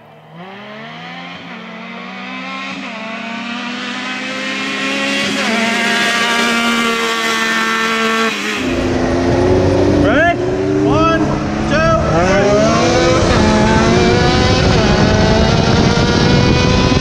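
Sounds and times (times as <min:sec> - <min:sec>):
engines revving and upshifting: 0:00.0 - 0:17.0.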